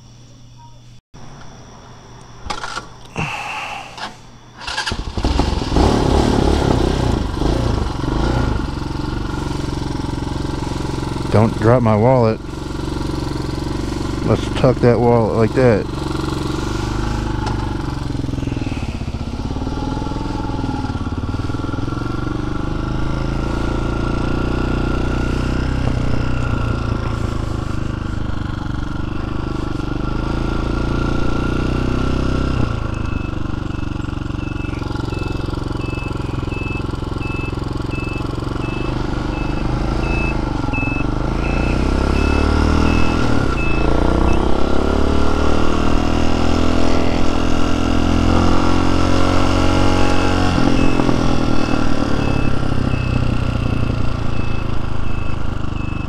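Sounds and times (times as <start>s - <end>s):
dirt bike engine revving: 2.5s - 56.0s.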